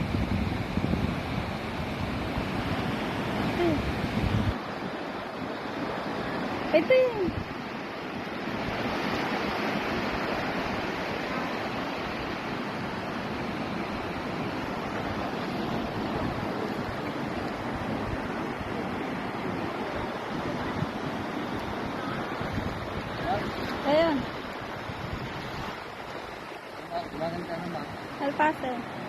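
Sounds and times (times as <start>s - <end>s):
water rushing: 0.0s - 29.0s.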